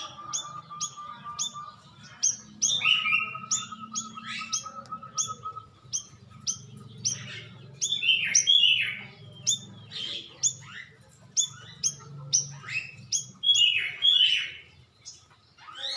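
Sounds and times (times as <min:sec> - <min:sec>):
bird chirping and whistling: 0:00.0 - 0:14.6, 0:15.6 - 0:15.9.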